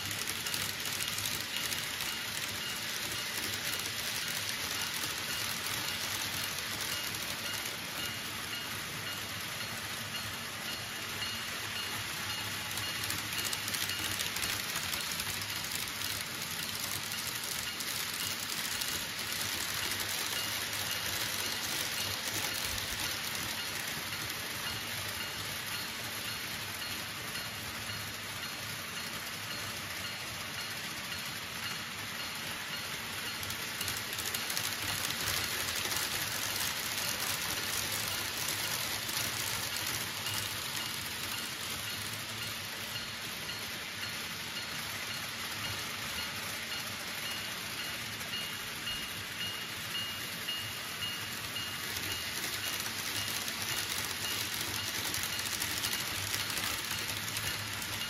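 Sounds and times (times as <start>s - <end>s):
model train wheels rattling: 0.0s - 58.0s.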